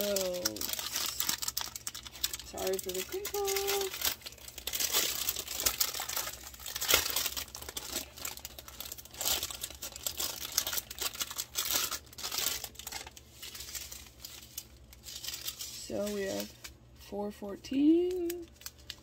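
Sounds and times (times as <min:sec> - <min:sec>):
plastic packaging crinkling: 0:00.0 - 0:17.0, 0:17.8 - 0:19.0.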